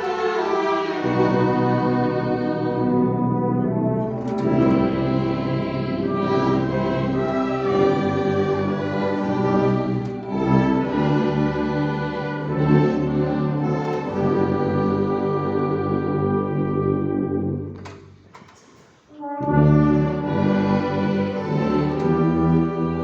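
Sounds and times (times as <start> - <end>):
brass ensemble playing a hymn: 0.0 - 18.1, 19.1 - 23.0.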